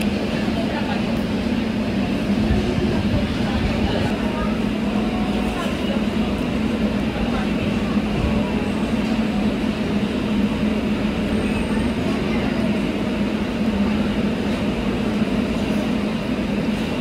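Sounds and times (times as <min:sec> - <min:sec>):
metro train rumbling: 0:00.0 - 0:17.0.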